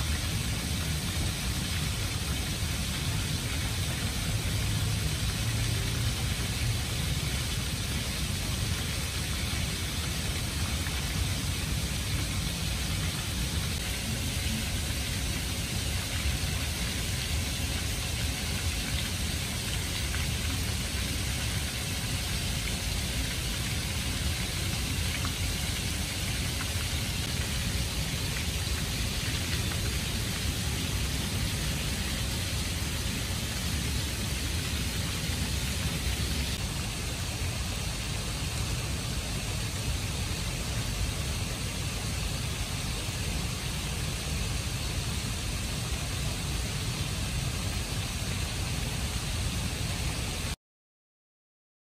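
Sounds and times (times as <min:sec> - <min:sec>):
fountain water splashing into pool: 0:00.0 - 0:50.6.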